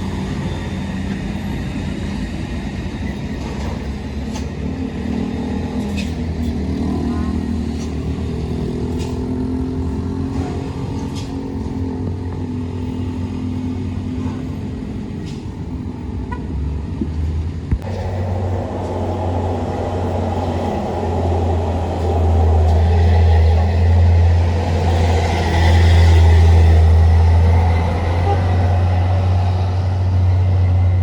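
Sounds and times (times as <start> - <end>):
vehicle engines rumbling: 0.0 - 31.0.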